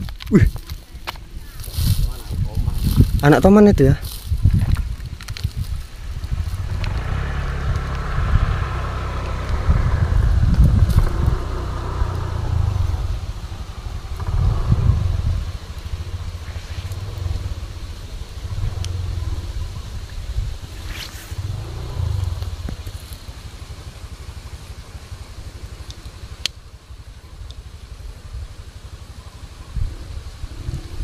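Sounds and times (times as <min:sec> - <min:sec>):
wind buffeting microphone: 0:00.0 - 0:26.2, 0:27.9 - 0:31.0.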